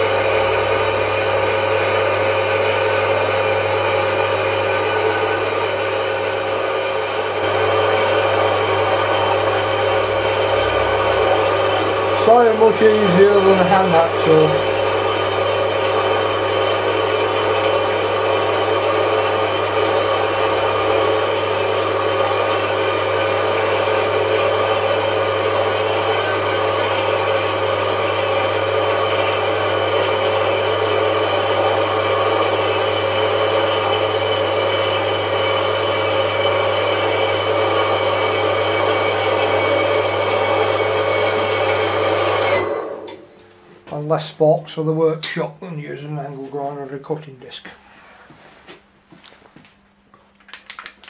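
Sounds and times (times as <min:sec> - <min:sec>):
bandsaw cutting steel: 0:00.0 - 0:42.8
motor hum: 0:00.0 - 0:44.0.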